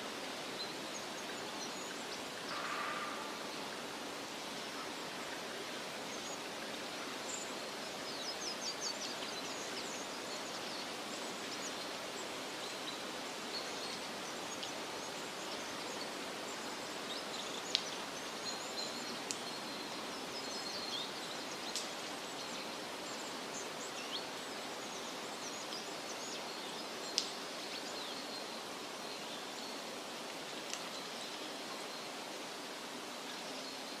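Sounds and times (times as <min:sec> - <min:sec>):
rushing background hiss: 0:00.0 - 0:34.0.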